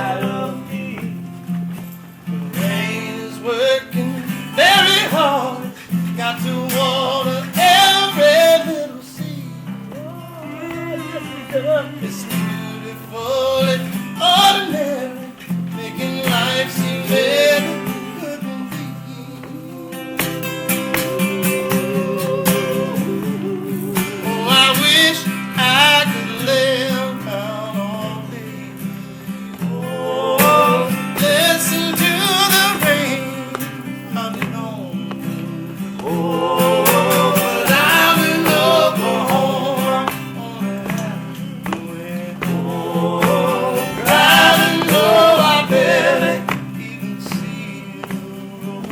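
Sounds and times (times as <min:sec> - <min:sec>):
acoustic guitars playing: 0:00.0 - 0:48.9.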